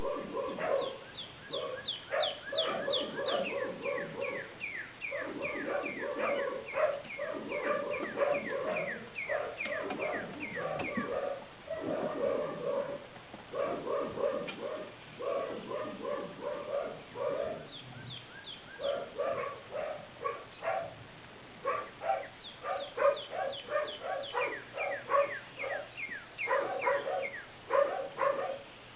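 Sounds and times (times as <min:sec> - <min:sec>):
dog barking and yelping: 0:00.0 - 0:17.8, 0:18.8 - 0:21.0, 0:21.6 - 0:28.7.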